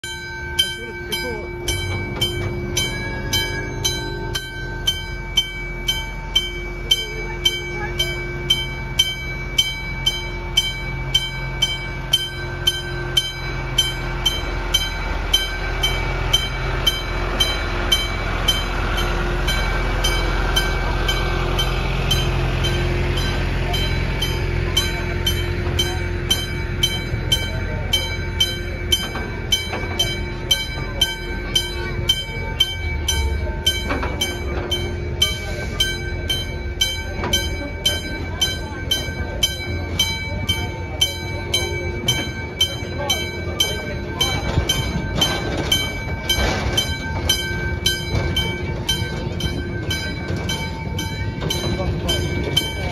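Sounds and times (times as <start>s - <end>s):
level crossing bell ringing: 0.0s - 52.9s
train rumbling past: 0.0s - 52.9s.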